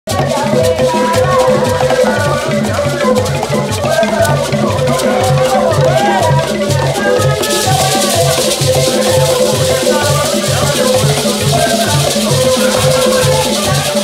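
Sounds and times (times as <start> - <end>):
gourd shakers: 0.1 - 14.0
hand drums beating: 0.1 - 14.0
woman singing: 0.1 - 14.0.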